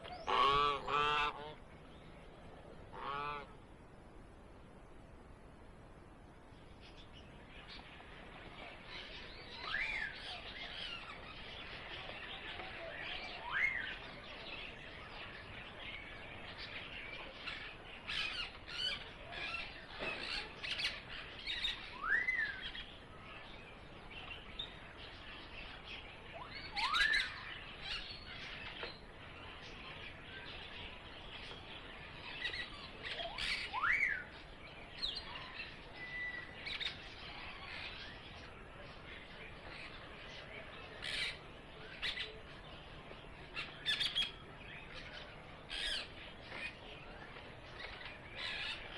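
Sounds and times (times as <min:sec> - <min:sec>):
small birds chirping: 0:06.4 - 0:48.9.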